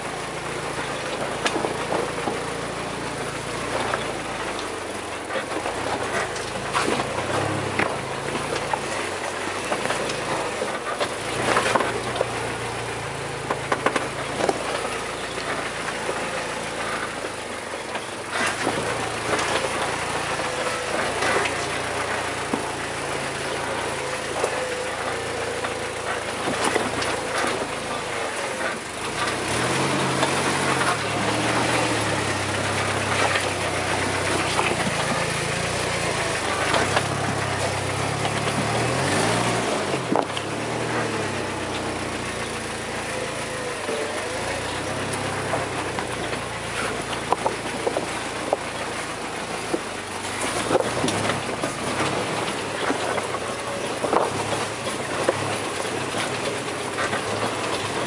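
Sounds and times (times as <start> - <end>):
vehicle engine running at low speed: 0.0 - 58.0
vehicle knocking and rattling over rocks: 0.0 - 58.0.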